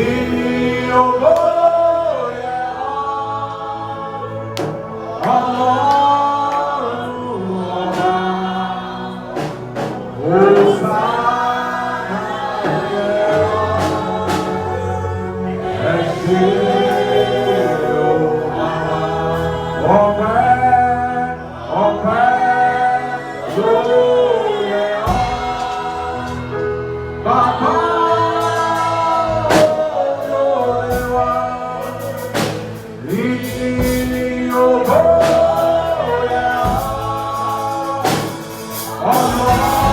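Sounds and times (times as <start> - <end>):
gospel singing: 0.0 - 39.9
low instrumental accompaniment: 0.0 - 39.9.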